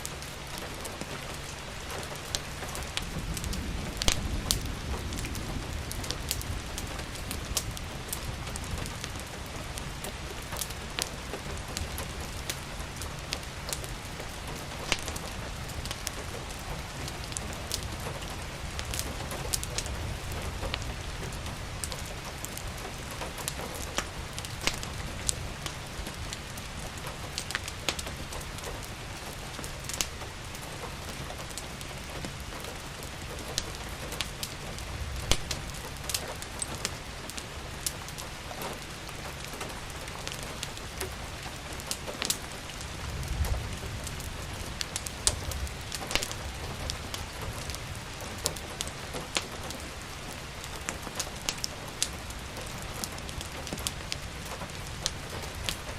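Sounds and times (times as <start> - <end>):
steady rain falling: 0.0 - 55.9
wood fire crackling: 0.0 - 55.9.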